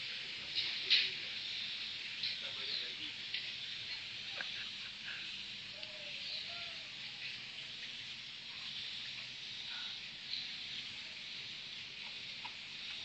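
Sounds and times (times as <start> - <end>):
high-pitched outdoor hiss: 0.0 - 13.0.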